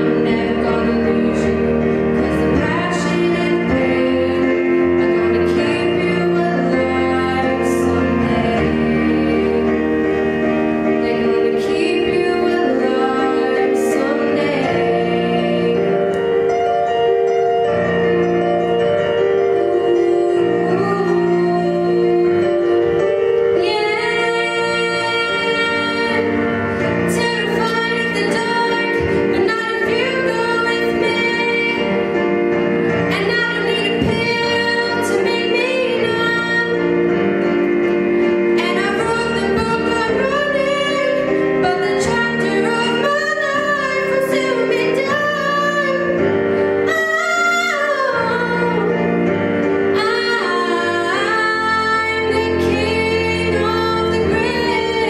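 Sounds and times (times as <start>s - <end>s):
woman singing: 0.0s - 9.8s, 10.9s - 16.2s, 19.4s - 26.5s, 27.1s - 32.2s, 33.1s - 37.0s, 38.6s - 49.2s, 49.9s - 55.0s
instrumental accompaniment: 0.0s - 55.0s.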